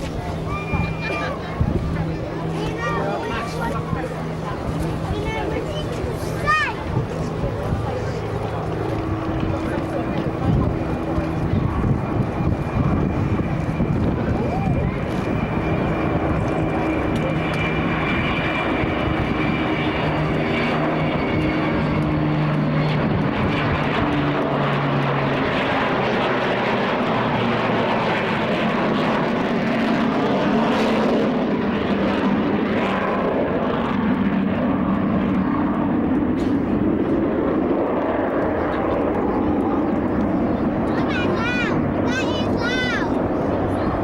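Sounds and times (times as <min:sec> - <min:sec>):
aircraft engine droning: 0:00.0 - 0:44.0.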